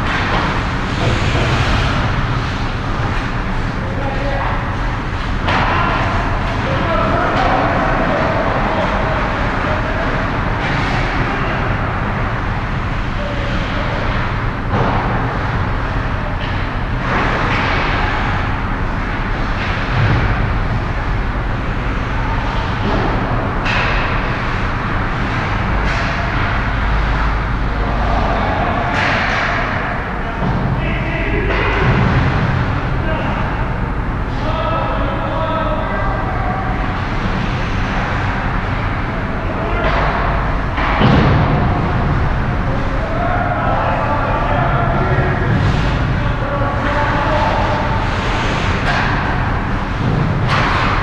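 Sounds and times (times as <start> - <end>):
low rumble: 0.0 - 51.0.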